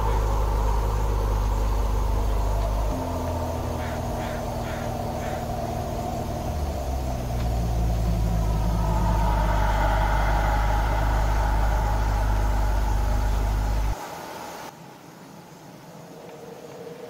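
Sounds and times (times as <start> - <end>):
car engine running: 0.0 - 14.3.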